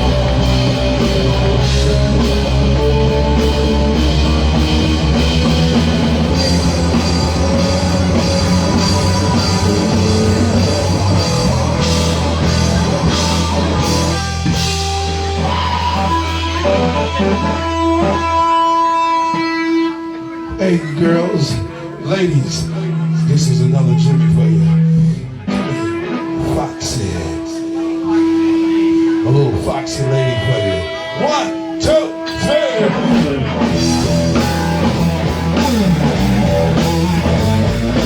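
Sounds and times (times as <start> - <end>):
electric guitar held notes: 0.0 - 38.0
live rock band playing: 0.0 - 38.0.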